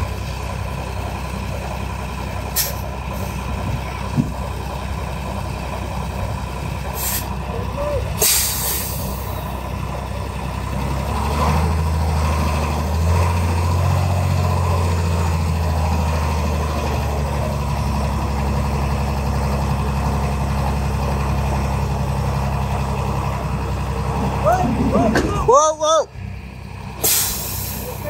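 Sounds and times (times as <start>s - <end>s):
diesel truck engine at low revs: 0.0s - 28.0s.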